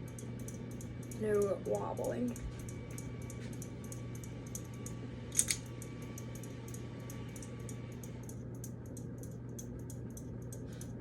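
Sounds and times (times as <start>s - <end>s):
fan double click: 0.0s - 10.6s
ceiling fan motor hum: 0.0s - 11.0s
fan light tapping: 0.0s - 11.0s.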